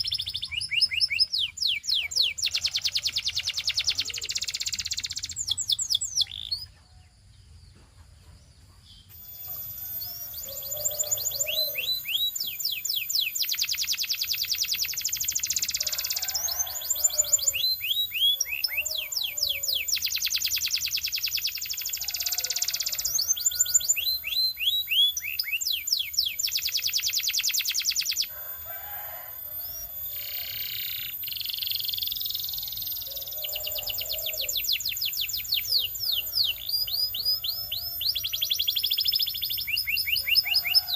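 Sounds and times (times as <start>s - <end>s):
canary singing: 0.0s - 6.8s, 9.0s - 40.9s.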